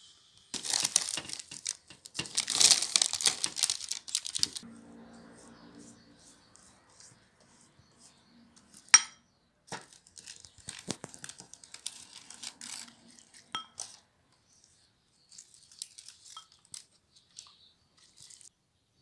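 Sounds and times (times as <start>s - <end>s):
pastry brush rustling: 0.5s - 9.0s, 9.7s - 18.5s.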